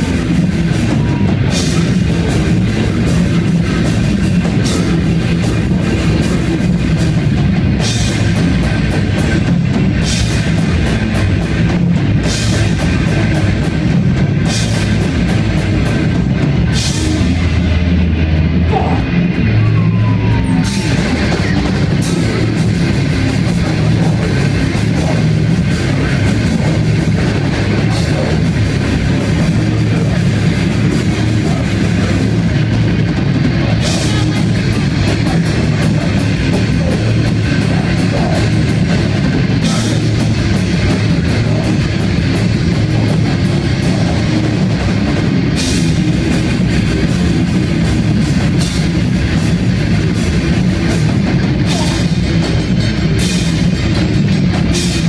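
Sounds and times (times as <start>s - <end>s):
live heavy rock band: 0.0s - 55.0s.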